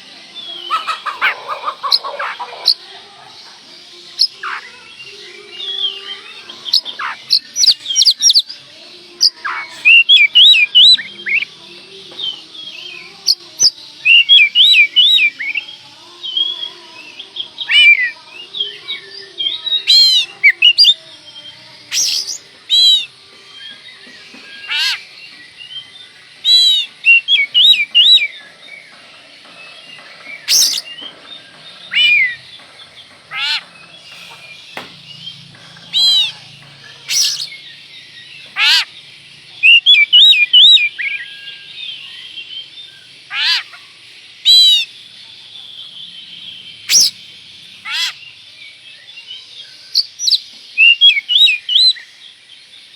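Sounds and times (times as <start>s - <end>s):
songbird whistling and chattering: 0.0s - 8.6s, 9.2s - 52.7s.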